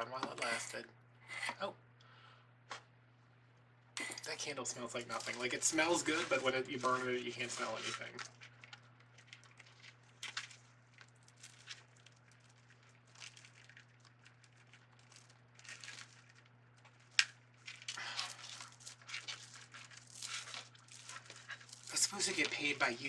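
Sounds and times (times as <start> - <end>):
faint low hum: 0.0 - 23.0
plastic mesh rustling and crinkling: 4.2 - 23.0.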